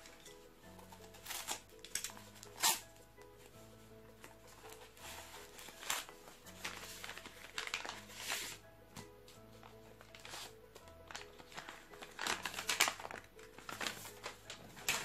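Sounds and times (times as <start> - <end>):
paper and plastic crinkling: 0.0 - 15.0
soft background music: 0.0 - 15.0.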